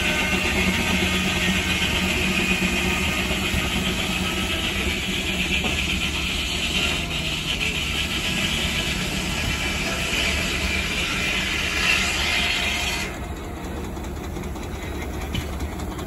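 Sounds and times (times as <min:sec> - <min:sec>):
sawmill saw cutting log: 0:00.0 - 0:16.0
steam tractor running: 0:00.0 - 0:16.0.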